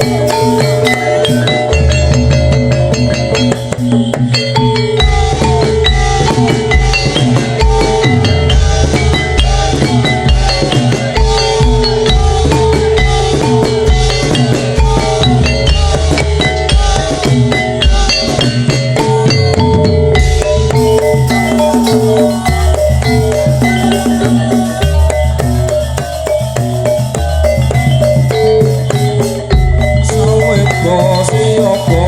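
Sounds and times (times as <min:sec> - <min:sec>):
hand drums with bending pitch: 0:00.0 - 0:32.0
heavy low drum beats: 0:00.0 - 0:32.0.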